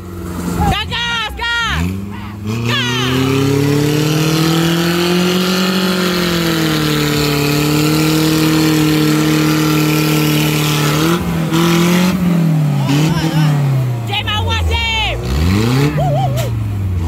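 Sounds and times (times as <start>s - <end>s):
buggy engine at high revs: 0.0s - 17.0s.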